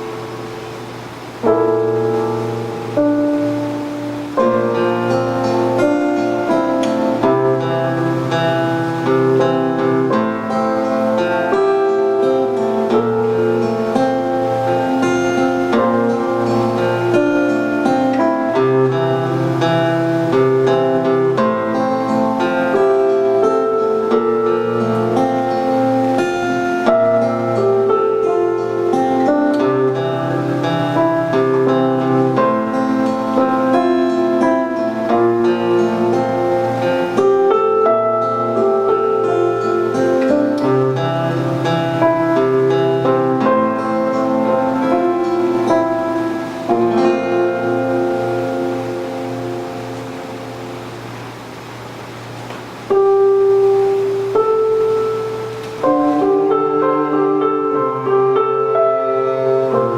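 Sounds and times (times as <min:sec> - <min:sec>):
plucked acoustic guitar music: 0:00.0 - 0:59.9.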